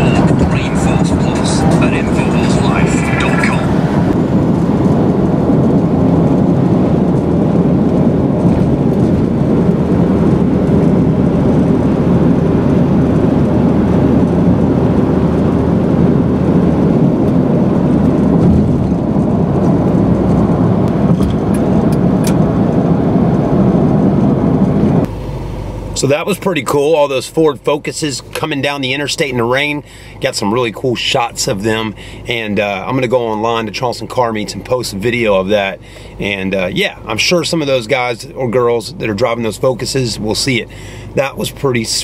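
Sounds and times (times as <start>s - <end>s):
car cabin road noise: 0.0s - 42.0s.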